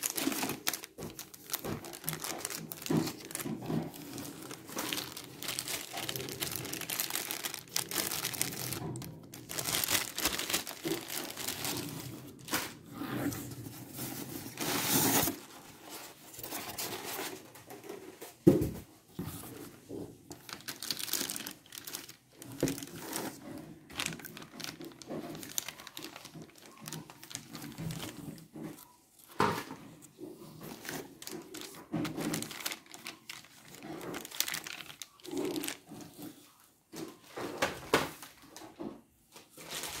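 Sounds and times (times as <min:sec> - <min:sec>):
plastic bags crinkling: 0:00.0 - 0:15.4, 0:19.6 - 0:36.4, 0:39.6 - 0:40.0.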